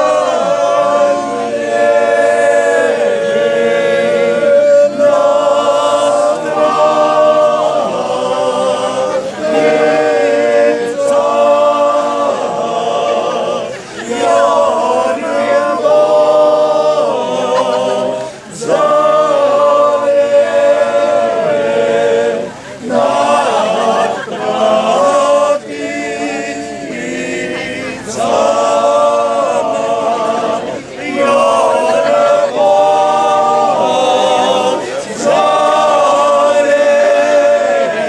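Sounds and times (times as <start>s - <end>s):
men singing in harmony: 0.0s - 38.0s.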